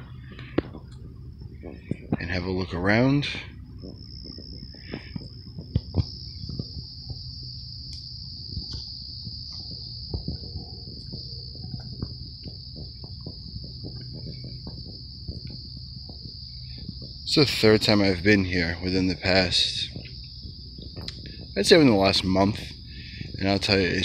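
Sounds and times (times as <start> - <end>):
crickets trilling: 0.0 - 24.0
soft low thumps: 0.0 - 24.0.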